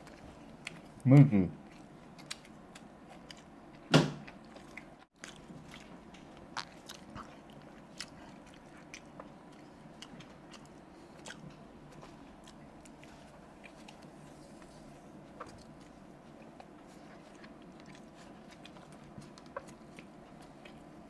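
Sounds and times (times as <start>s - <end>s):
biting and chewing food: 0.0s - 21.0s.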